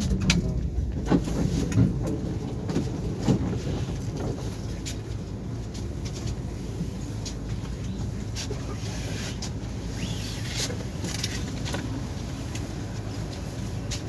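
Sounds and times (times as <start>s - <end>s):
tram rumbling on track: 0.0s - 14.0s.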